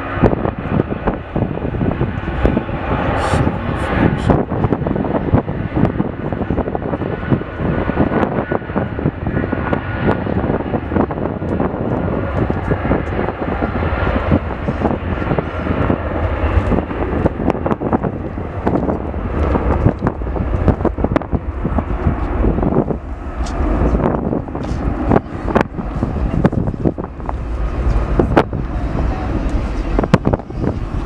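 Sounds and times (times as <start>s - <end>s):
jet engines at takeoff power: 0.0s - 31.0s.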